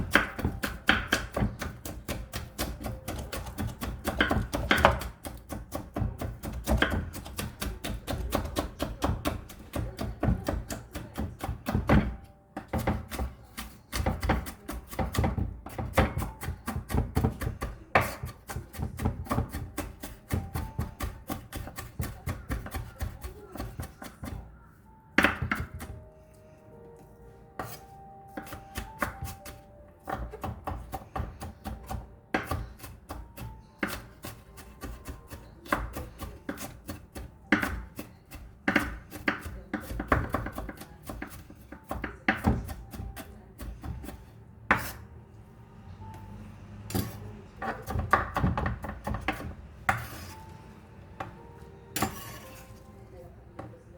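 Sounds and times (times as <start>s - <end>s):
knife chopping on cutting board: 0.0s - 24.4s, 25.2s - 26.0s, 27.6s - 45.0s, 46.9s - 50.5s.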